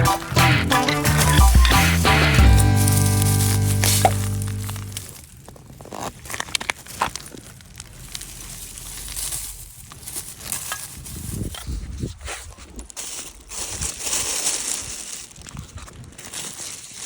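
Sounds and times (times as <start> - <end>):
plant stems rustling and snapping: 0.8 - 17.0.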